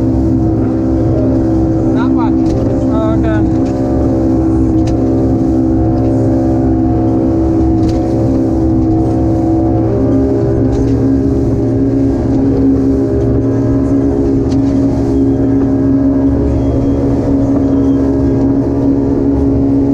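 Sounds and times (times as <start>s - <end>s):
boat engine drone: 0.0s - 19.9s
rushing water: 0.0s - 19.9s
wind: 0.0s - 19.9s.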